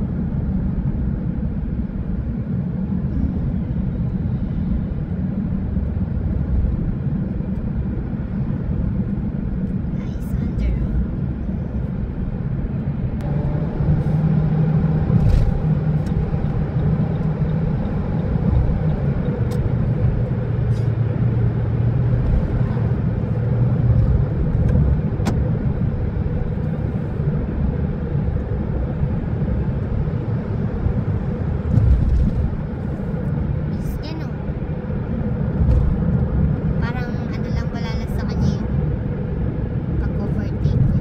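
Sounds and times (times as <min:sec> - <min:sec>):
car engine and road noise: 0:00.0 - 0:41.0.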